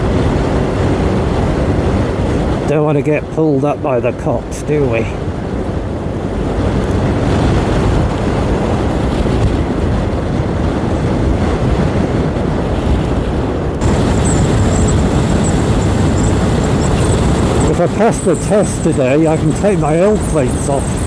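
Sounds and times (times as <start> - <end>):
motorcycle road noise: 0.0 - 21.0
wind blowing over microphone: 0.0 - 21.0.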